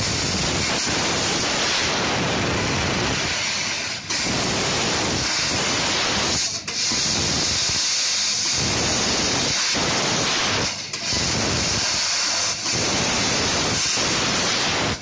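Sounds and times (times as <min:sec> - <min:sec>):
laser cutter gas jet hissing: 0:00.0 - 0:15.0.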